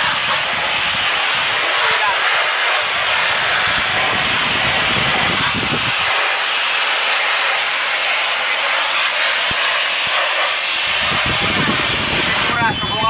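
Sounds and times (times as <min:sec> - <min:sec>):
pressure washer spraying: 0:00.0 - 0:12.6.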